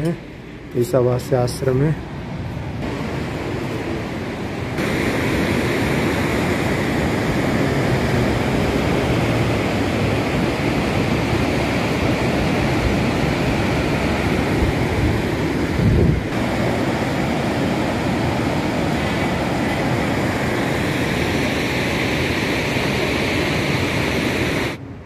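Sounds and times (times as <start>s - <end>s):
river rushing: 2.1s - 24.8s.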